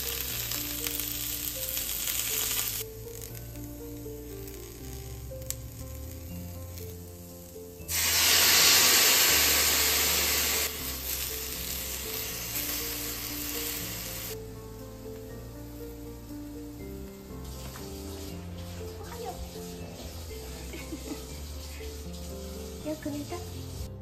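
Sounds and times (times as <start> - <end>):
vegetables sizzling in a skillet: 0.0 - 14.4, 15.0 - 24.0
background music: 0.0 - 24.0.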